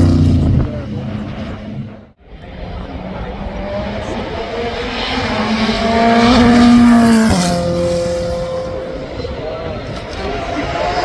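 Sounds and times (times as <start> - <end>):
car engine passing at high revs: 0.0 - 11.0.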